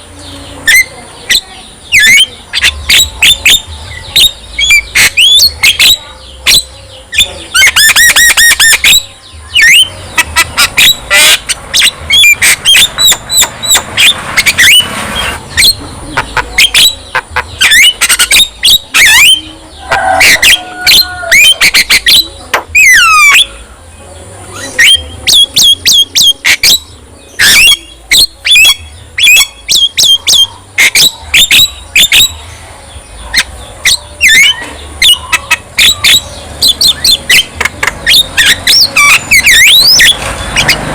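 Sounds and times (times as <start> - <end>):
myna whistling and squawking: 0.0 - 23.7, 24.4 - 32.6, 33.2 - 40.9.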